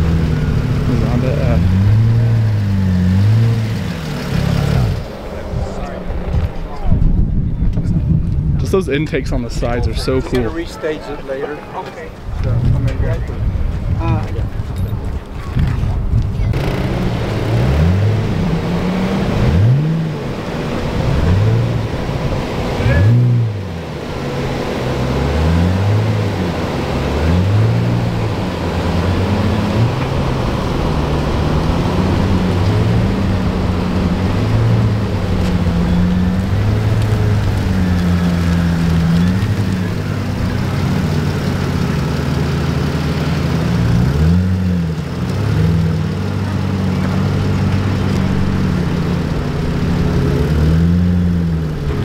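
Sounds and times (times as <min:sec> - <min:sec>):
car engine revving: 0:00.0 - 0:07.4, 0:16.4 - 0:52.0.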